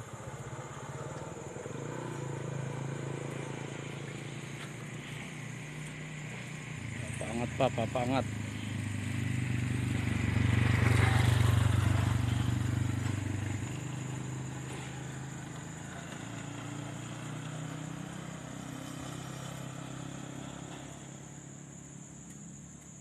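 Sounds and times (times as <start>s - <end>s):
vehicle engine running: 0.0s - 22.5s.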